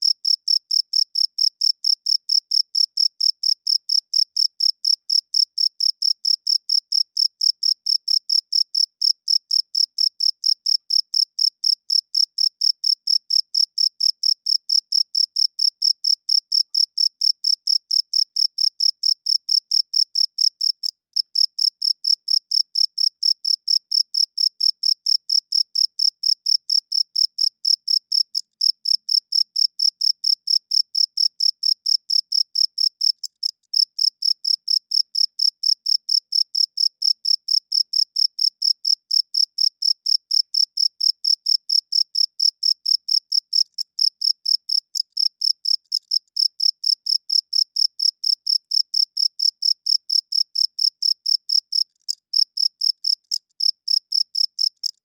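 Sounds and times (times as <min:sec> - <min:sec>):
cricket chirping: 0:00.0 - 0:20.8, 0:21.4 - 0:55.0.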